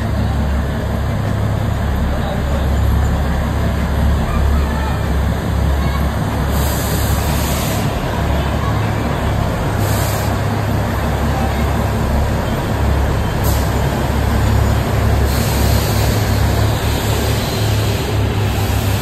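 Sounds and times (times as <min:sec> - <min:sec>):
diesel locomotive engine: 0:00.0 - 0:19.0.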